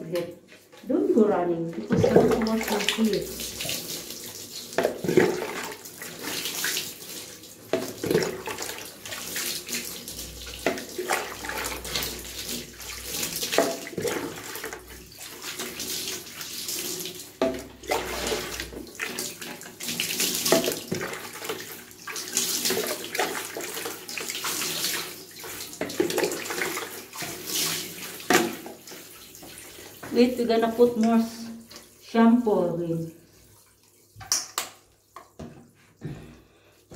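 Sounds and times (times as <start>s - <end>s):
water pouring and splashing: 0.0s - 36.9s.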